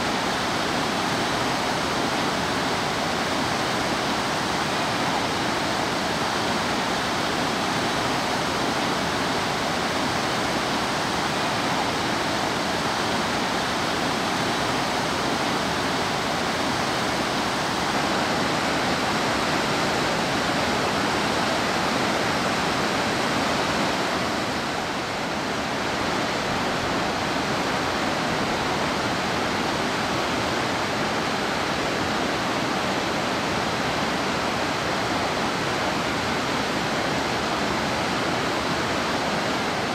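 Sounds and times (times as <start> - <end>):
river rapids rushing over boulders: 0.0 - 39.9.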